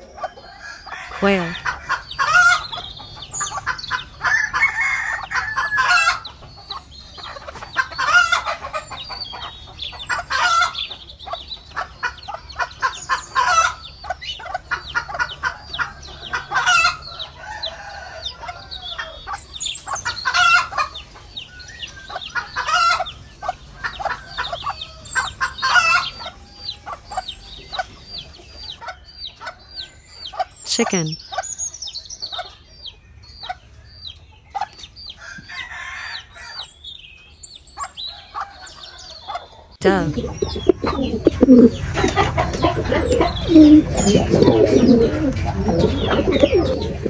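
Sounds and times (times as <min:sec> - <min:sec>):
soft chirps and clucks: 0:00.0 - 0:47.0.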